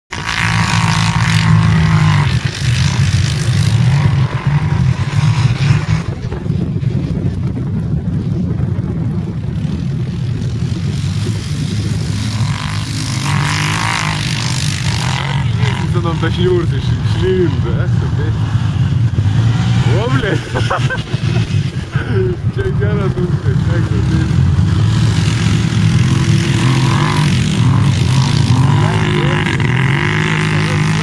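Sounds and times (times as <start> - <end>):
quad bike engines revving: 0.0 - 31.0.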